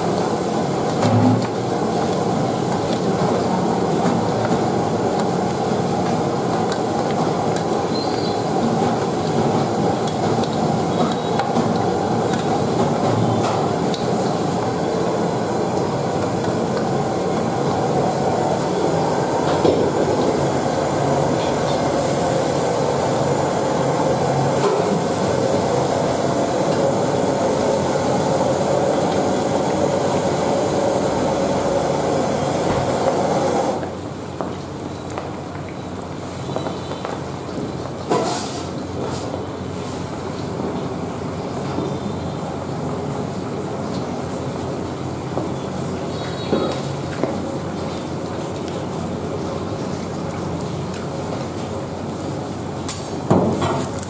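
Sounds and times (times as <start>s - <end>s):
gas wok burners rumbling: 0.0s - 54.0s.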